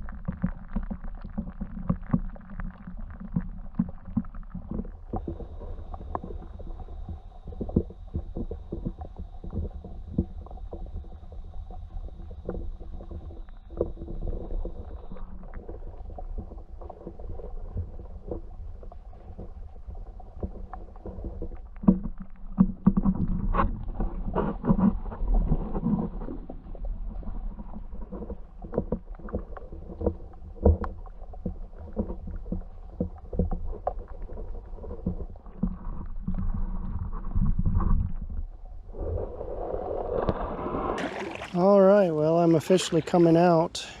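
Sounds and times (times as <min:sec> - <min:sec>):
paddle strokes in water: 0:00.0 - 0:44.0.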